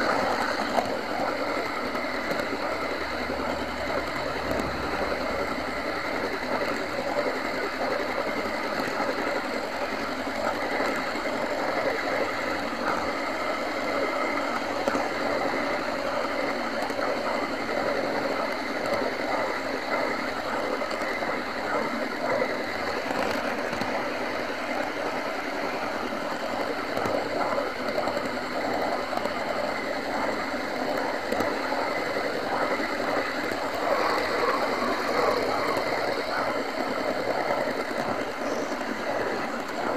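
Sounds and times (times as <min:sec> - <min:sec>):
high electric motor hum: 0:00.0 - 0:39.9.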